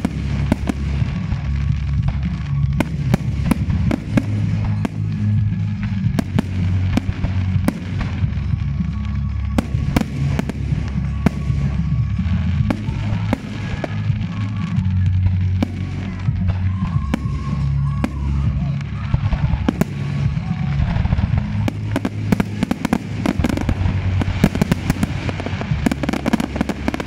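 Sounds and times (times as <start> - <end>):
fireworks bangs and crackles: 0.0 - 27.0
music playing: 0.0 - 27.0.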